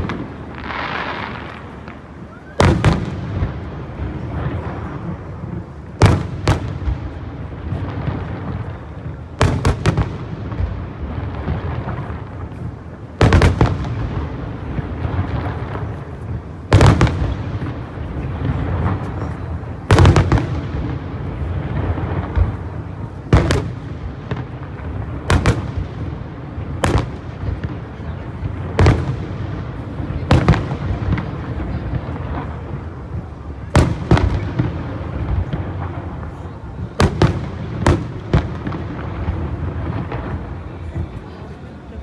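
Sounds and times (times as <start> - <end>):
firework booms: 0.0 - 41.6.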